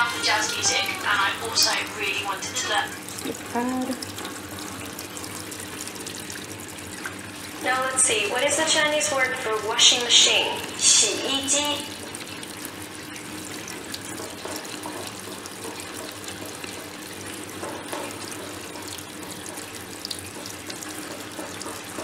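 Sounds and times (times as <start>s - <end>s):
water running from hose: 0.0s - 22.0s.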